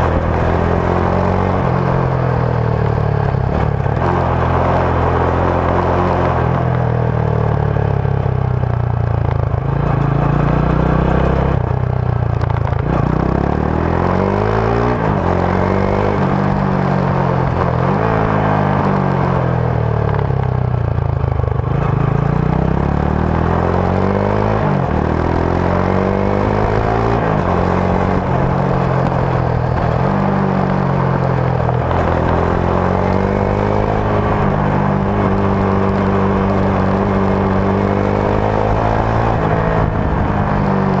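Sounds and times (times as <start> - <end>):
motorcycle exhaust revving: 0.0 - 41.0.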